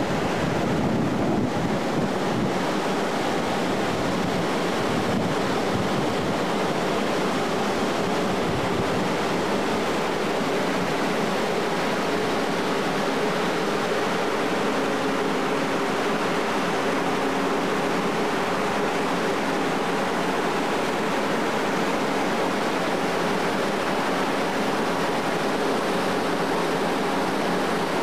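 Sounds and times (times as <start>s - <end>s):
wind and water rushing: 0.0s - 28.0s.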